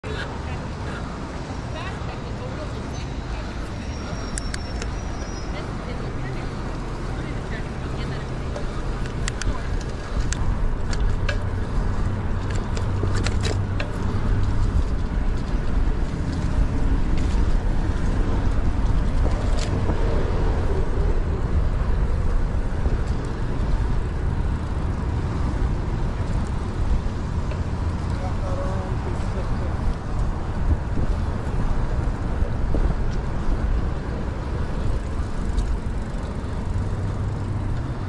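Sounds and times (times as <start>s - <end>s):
bicycle wind and road noise: 0.0s - 38.0s.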